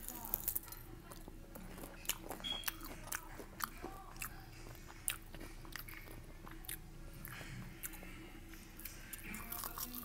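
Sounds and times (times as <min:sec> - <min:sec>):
person chewing fried food: 0:00.0 - 0:10.0.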